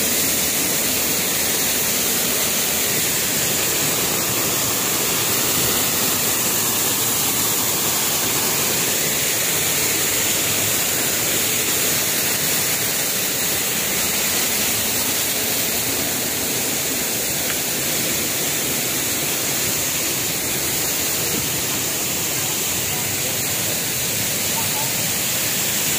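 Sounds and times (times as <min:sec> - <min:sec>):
small waterfall rushing: 0:00.0 - 0:25.9.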